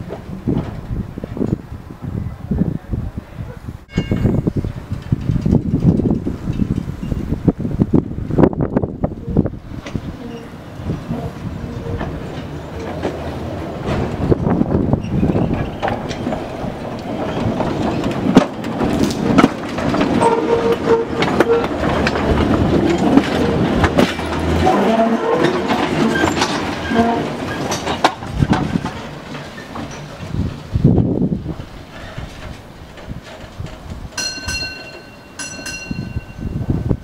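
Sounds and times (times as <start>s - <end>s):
tram wheels clanking over rail joints: 0.0s - 2.1s, 3.9s - 37.0s
tram rumble: 0.0s - 37.0s.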